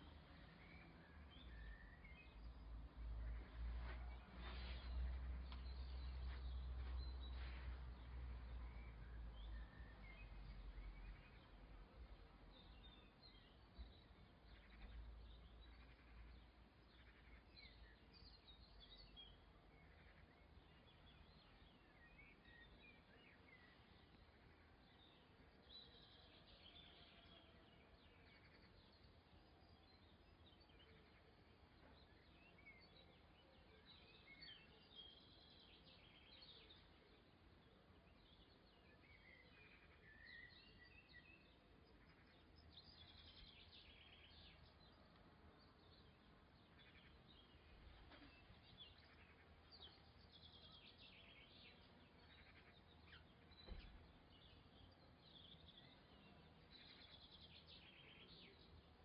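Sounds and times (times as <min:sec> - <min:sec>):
faint bird chirps: 0:00.0 - 0:59.0.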